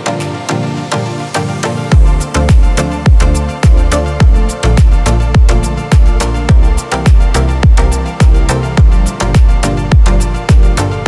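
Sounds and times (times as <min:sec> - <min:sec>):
sustained synth chords: 0:00.0 - 0:11.0
deep kick drum: 0:01.9 - 0:10.9.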